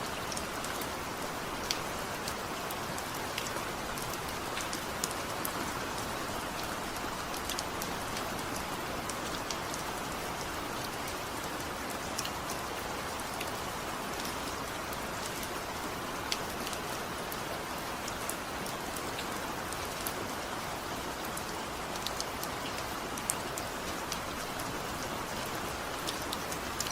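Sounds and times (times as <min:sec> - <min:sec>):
heavy rain falling: 0:00.0 - 0:26.9
raindrops ticking on a surface: 0:00.1 - 0:26.9.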